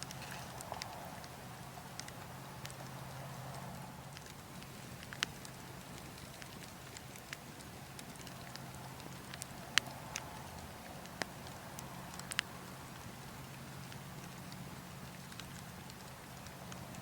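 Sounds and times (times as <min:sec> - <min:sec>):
low rumble of wind: 0:00.0 - 0:17.0
wood logs crackling and popping: 0:00.0 - 0:17.0.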